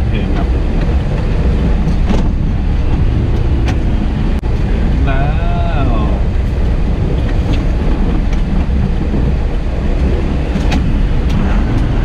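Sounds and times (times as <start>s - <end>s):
vehicle rumble on dirt track: 0.0s - 12.0s
wind buffeting microphone: 0.0s - 12.0s.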